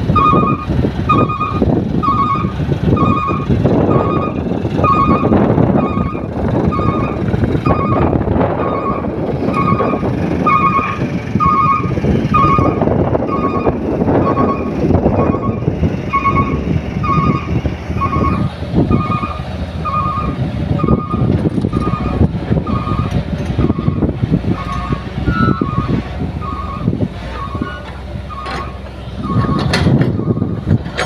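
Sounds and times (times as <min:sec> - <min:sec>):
heavy machinery engines rumbling: 0:00.0 - 0:31.0
reversing alarm beeping: 0:00.1 - 0:30.6.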